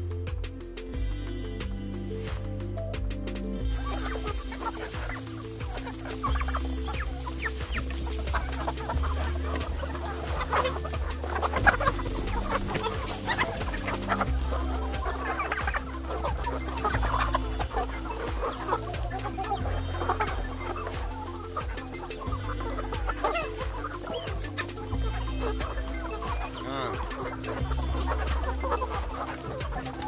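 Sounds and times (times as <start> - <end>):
background music with bass line: 0.0 - 30.0
chickens clucking: 0.0 - 30.0.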